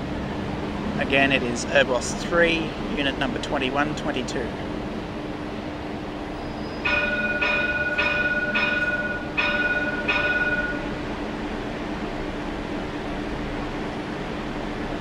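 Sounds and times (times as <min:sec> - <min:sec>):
tram steady hum: 0:00.0 - 0:15.0
tram warning gong: 0:00.0 - 0:15.0.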